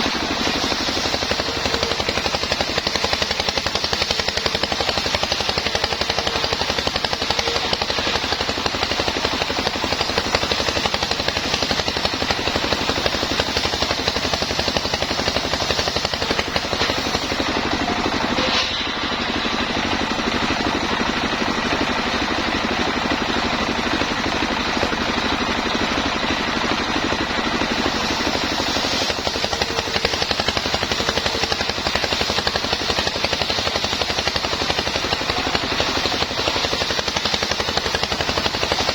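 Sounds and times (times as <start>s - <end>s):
engine-driven sawmill running: 0.0s - 38.9s.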